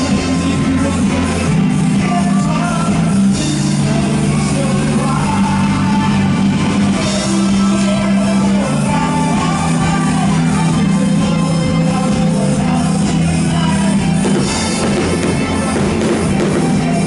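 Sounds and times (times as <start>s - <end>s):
loud amplified music with singing: 0.0s - 17.0s.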